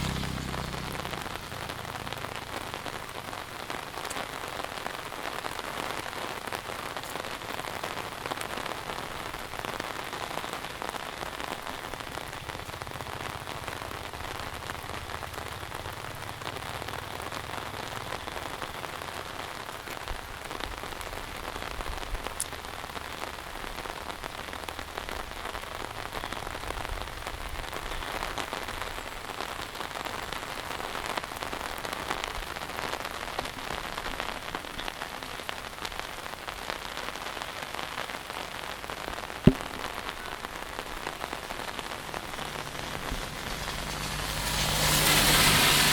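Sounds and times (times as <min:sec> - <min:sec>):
heavy rain hissing: 0:00.0 - 0:45.9.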